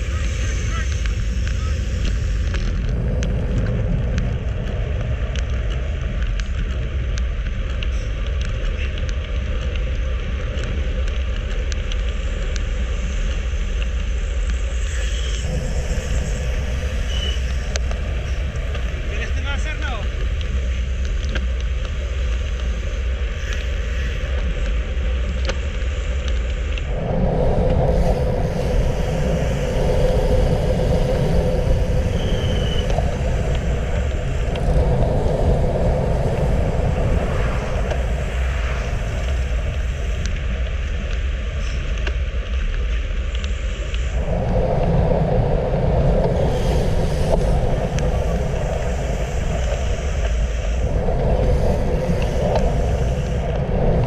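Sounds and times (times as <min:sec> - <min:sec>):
bicycle tyre and road hum: 0:00.0 - 0:54.0
wind rushing over microphone: 0:00.0 - 0:54.0.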